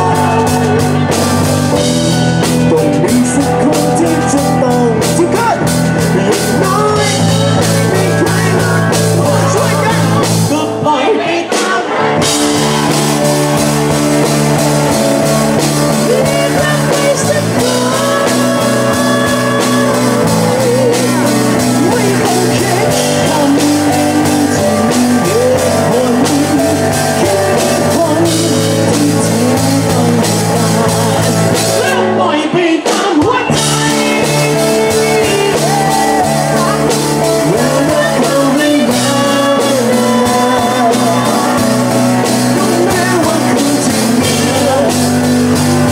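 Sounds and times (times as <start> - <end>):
drum kit: 0.0 - 45.9
electric bass: 0.0 - 45.9
electric guitar: 0.0 - 45.9
man singing: 0.0 - 45.9.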